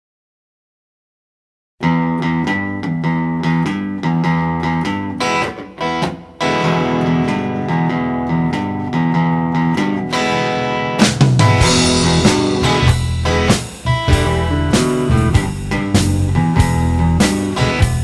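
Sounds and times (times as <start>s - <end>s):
guitar chords over bass line: 1.8s - 18.0s.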